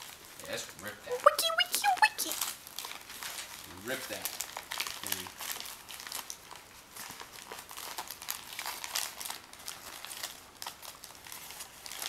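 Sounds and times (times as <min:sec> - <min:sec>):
wrapping paper crinkling: 0:00.0 - 0:12.0.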